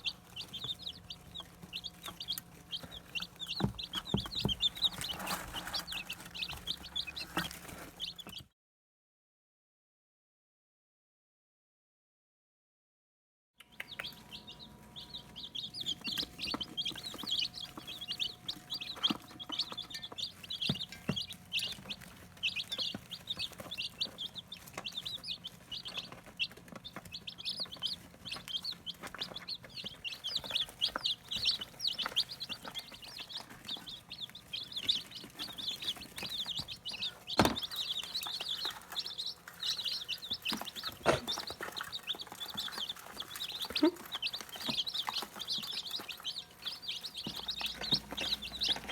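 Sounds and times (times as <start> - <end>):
chicks peeping: 0.0 - 8.5, 13.6 - 48.9.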